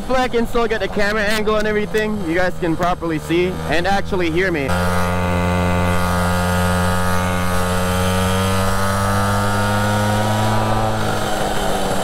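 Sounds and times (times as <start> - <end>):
small engine revving high: 0.7 - 12.0.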